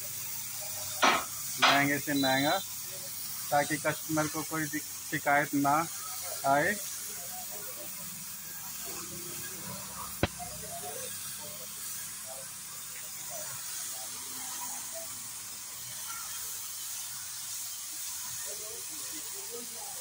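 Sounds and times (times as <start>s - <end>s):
paint spray gun hissing: 0.0s - 20.0s.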